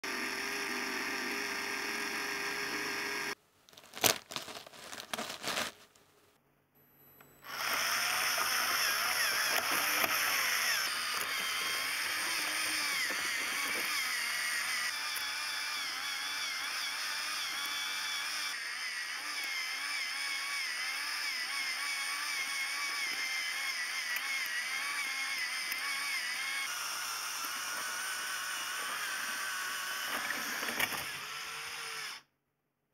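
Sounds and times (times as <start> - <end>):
small electric motors whining: 0.0 - 3.4, 7.4 - 32.3.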